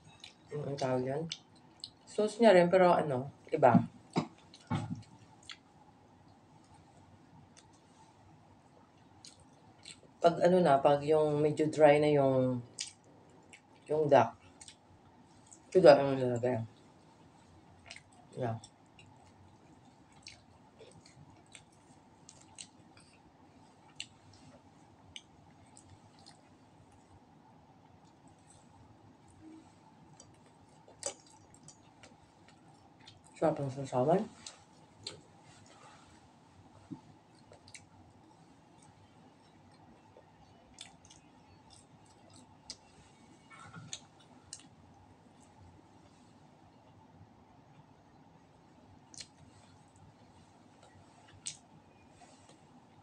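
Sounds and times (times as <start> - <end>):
soft chewing with clicks and smacks: 0.0 - 2.3, 3.3 - 10.4, 12.6 - 53.0.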